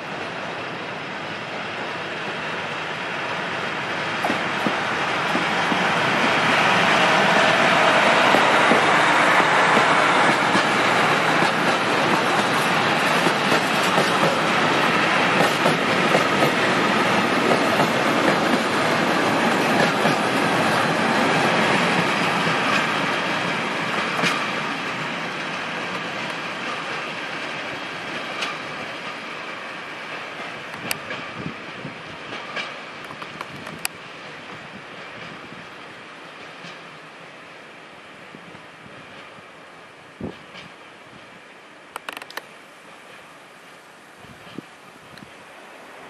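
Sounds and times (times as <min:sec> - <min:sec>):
freight train rolling past: 0:00.0 - 0:46.0.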